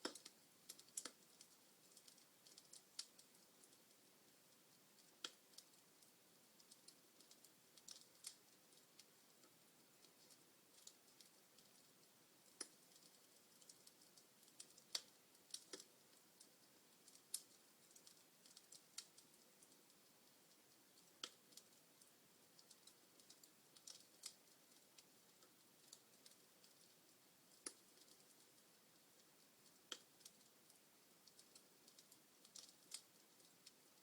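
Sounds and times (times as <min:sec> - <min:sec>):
faint steady hiss: 0:00.0 - 0:34.0
wood fire crackling: 0:00.0 - 0:34.0.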